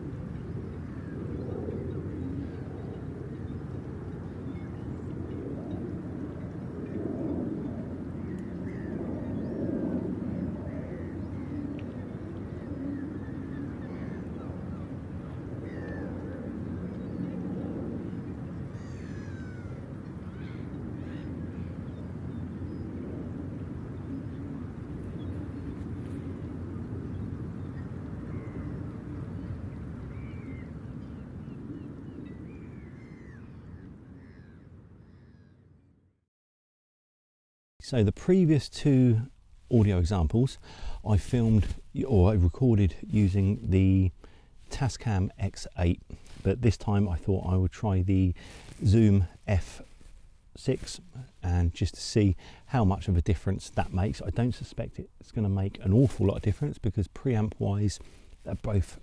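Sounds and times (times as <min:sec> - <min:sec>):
faint bird calls: 0:00.0 - 0:35.8, 0:39.1 - 0:59.0.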